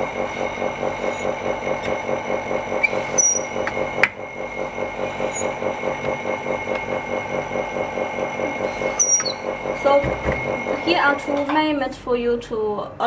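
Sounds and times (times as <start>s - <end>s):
vacuum pump humming: 0.0s - 13.0s.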